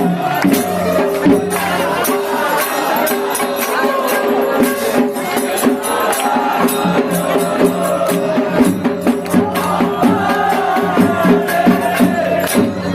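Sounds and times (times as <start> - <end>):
hand percussion and jingles: 0.0 - 12.9
voices chanting: 0.0 - 12.9.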